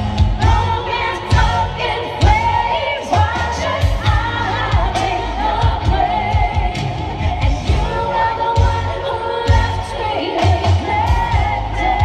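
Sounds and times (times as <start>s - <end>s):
backing singers: 0.0s - 12.0s
steady drum beat: 0.0s - 12.0s
woman singing lead: 0.0s - 12.0s.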